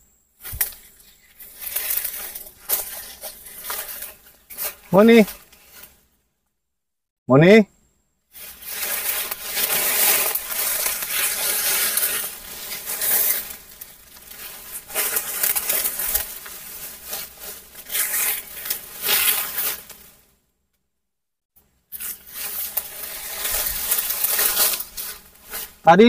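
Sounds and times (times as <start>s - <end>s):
rustling of leaves and undergrowth: 0.4s - 6.2s, 8.3s - 20.4s, 21.6s - 26.0s.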